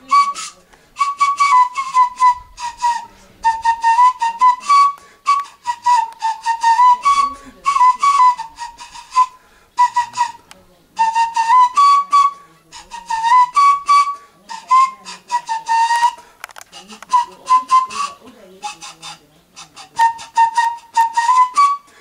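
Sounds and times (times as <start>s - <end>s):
bamboo flute playing: 0.0s - 22.0s.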